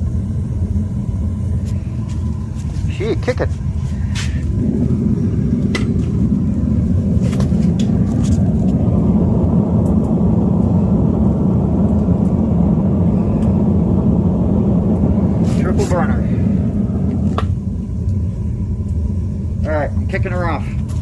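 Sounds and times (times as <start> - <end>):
gas forge burner roar: 0.0 - 21.0.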